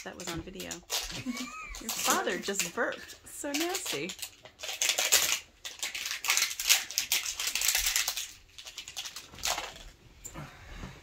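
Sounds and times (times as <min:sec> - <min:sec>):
plastic packaging crinkling and tearing: 0:00.0 - 0:10.0.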